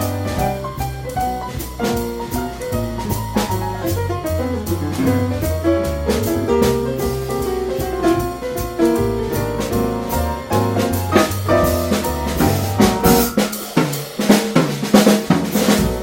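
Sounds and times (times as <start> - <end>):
bass: 0.0 - 16.0
drums: 0.0 - 16.0
jazz piano: 0.0 - 16.0.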